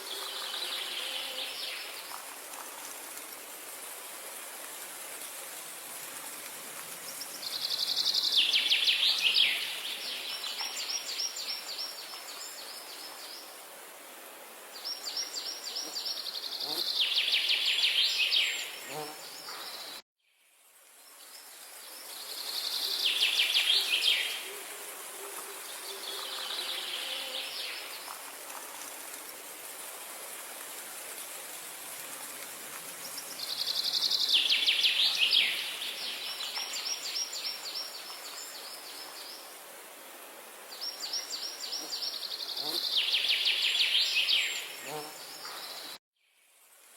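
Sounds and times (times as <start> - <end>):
background hiss: 0.0 - 46.9.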